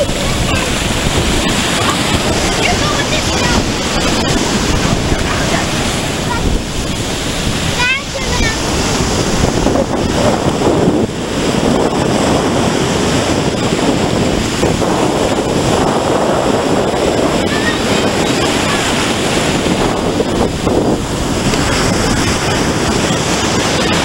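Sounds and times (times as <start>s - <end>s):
surf washing up beach: 0.0s - 24.0s
wind buffeting microphone: 0.0s - 24.0s.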